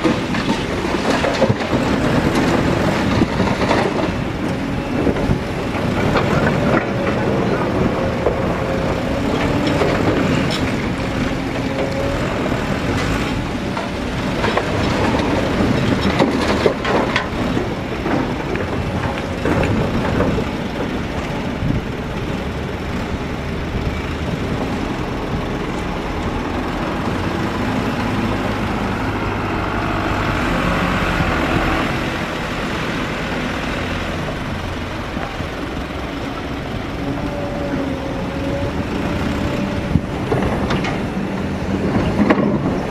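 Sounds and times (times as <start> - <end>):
diesel engine drone: 0.0 - 42.9.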